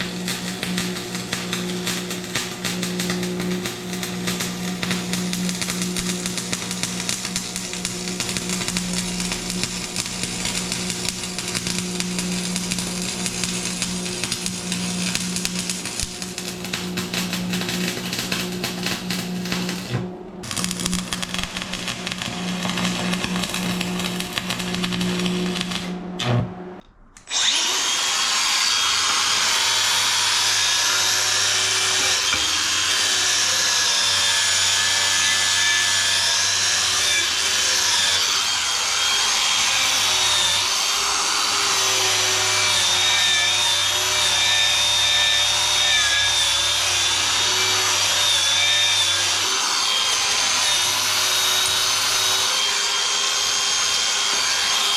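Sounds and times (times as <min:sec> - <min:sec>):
welding arc crackling hiss: 0:00.0 - 0:26.0, 0:27.4 - 0:54.9.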